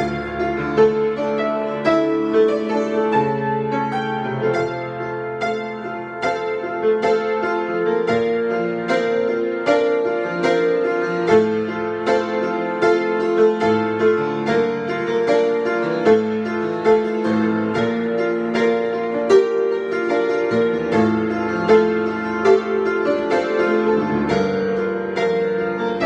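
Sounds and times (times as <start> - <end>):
solo piano: 0.0 - 26.0.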